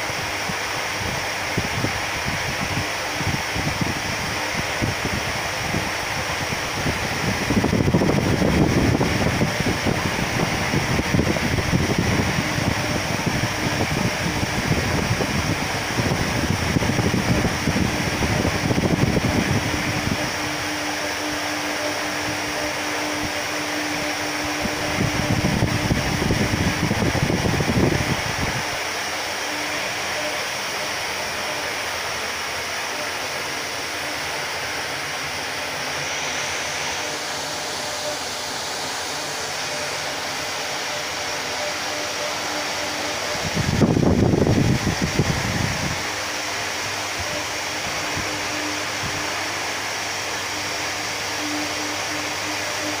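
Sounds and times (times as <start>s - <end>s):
fan rushing noise: 0.0s - 53.0s.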